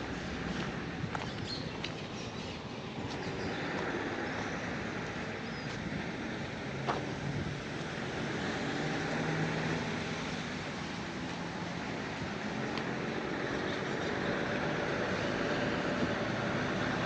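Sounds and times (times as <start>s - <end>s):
street noise: 0.0s - 17.0s
vehicle engine humming: 0.0s - 17.0s.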